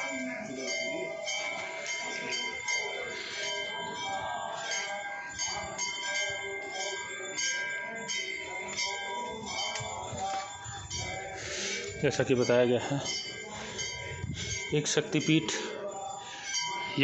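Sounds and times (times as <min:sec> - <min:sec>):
brass bells ringing: 0:00.0 - 0:17.0.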